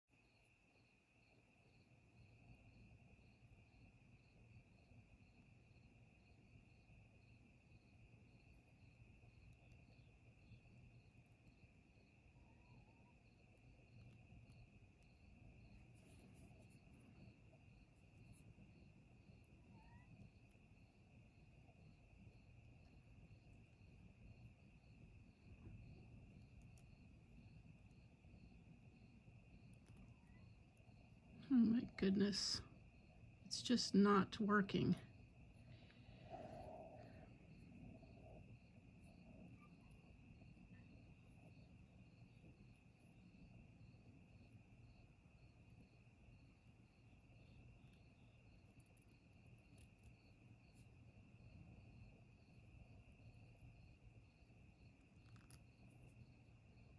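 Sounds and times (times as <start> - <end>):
faint crickets trilling: 0.0 - 56.9
quiet cricket chirps: 0.0 - 56.9.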